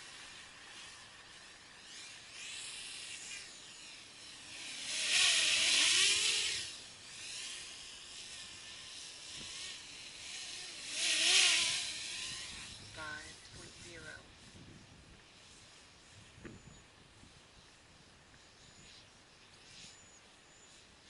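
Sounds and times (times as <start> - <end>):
quadcopter propellers buzzing: 0.0 - 21.0.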